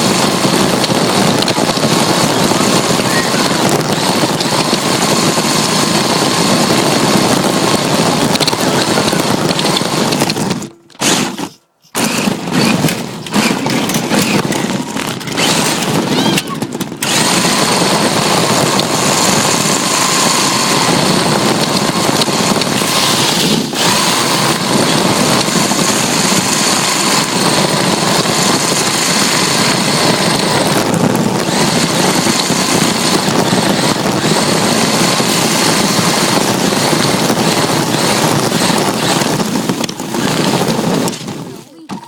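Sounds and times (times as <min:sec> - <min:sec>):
rc car motor and gear whine: 0:00.0 - 0:42.0
tyre and ground noise: 0:00.0 - 0:42.0.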